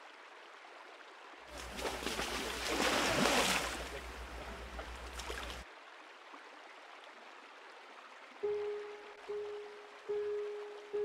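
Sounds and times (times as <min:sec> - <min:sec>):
river water splashing and rushing: 0:00.0 - 0:11.0.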